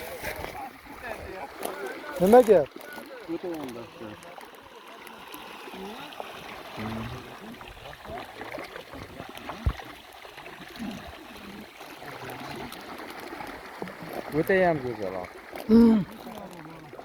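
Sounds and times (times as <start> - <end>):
running trickling water: 0.0 - 17.0.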